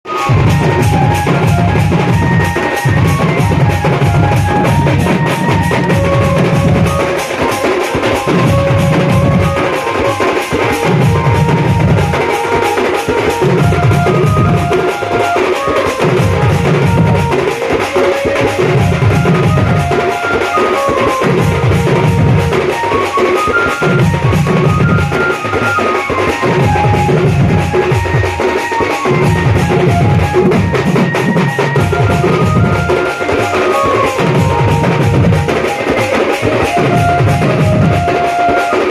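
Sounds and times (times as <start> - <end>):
drum beat: 0.1 - 38.9
lead melody: 0.2 - 38.9.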